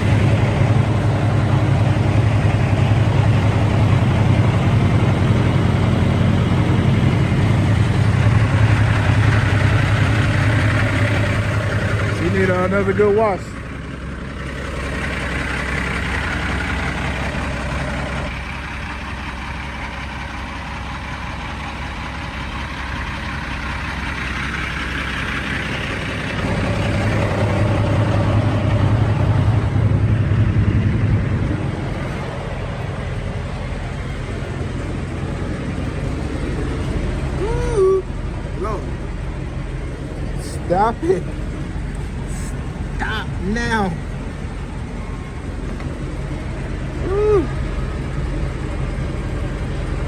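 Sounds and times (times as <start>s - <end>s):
low rumble: 0.0s - 18.8s, 25.8s - 50.0s
diesel truck engine idling: 0.0s - 50.0s.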